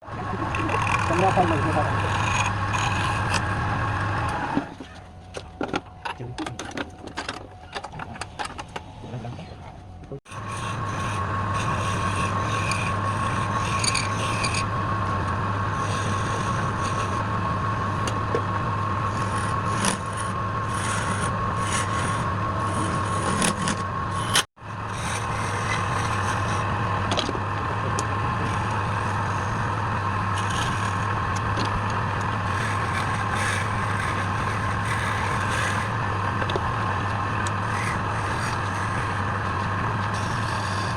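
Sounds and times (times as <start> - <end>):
wood lathe motor humming: 0.0 - 4.7, 10.3 - 40.9
turning tool scraping wood: 0.2 - 5.4, 10.3 - 40.9.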